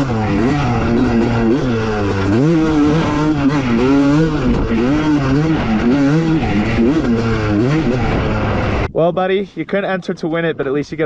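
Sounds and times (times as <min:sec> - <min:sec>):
dirt bike engine revving: 0:00.0 - 0:08.9.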